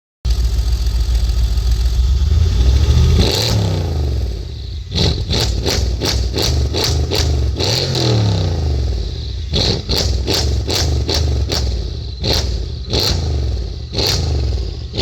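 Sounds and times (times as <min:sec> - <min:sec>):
car engine revving: 0:00.3 - 0:15.0
sharp exhaust bursts: 0:00.3 - 0:15.0.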